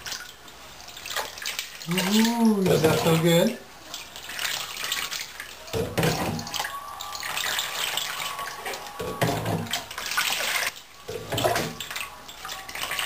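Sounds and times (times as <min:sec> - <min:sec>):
bath water splashing: 0:00.0 - 0:13.0.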